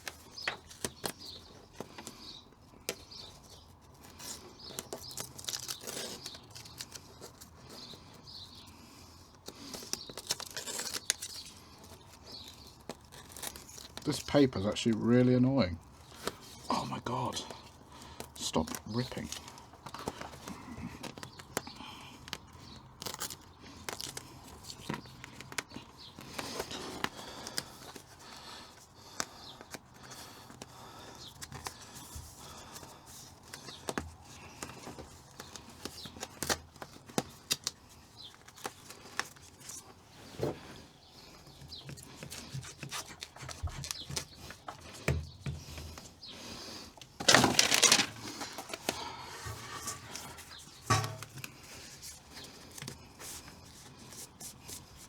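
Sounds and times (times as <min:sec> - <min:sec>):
paper rustling and tearing: 0:02.9 - 0:08.7, 0:09.5 - 0:55.0.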